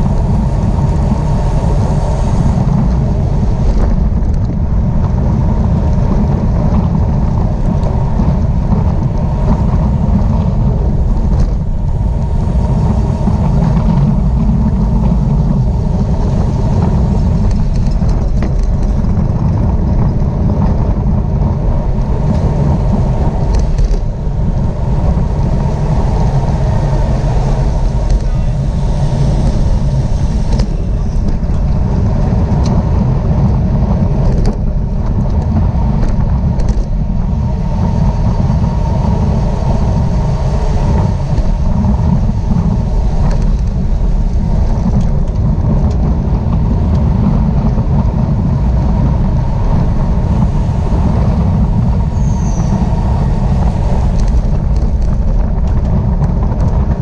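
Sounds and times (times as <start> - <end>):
bicycle tyre and road noise: 0.0 - 57.0
wind buffeting microphone: 0.0 - 57.0.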